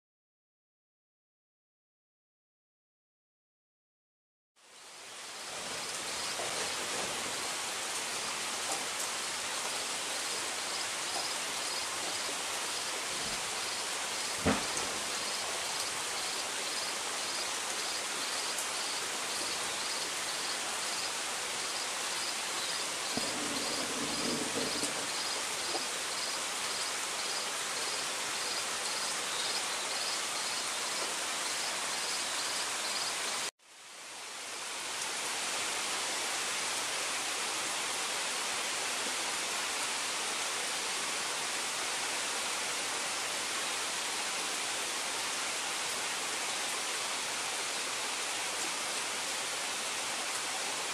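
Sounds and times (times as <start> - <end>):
rain on foliage: 4.6 - 50.9.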